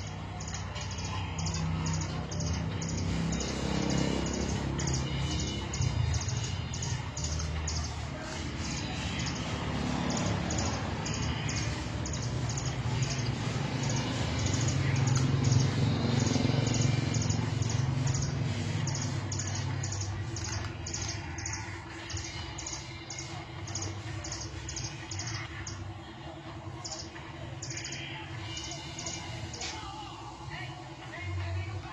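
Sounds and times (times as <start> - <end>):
bird singing rapid high notes: 0.0 - 25.8.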